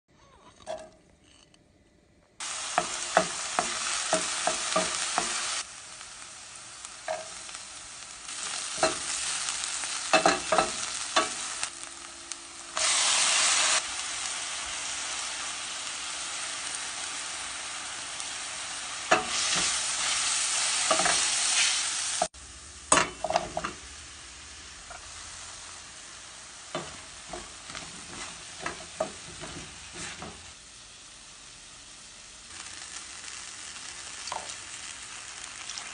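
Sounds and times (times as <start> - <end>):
vegetables sizzling in oil: 2.4 - 35.9.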